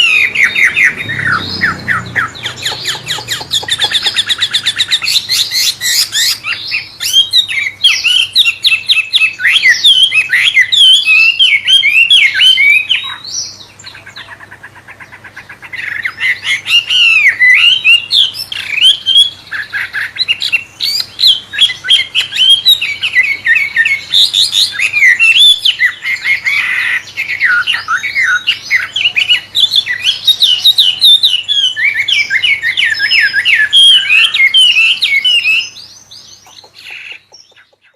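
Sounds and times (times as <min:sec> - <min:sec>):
songbird whistling and squawking: 0:00.0 - 0:37.9.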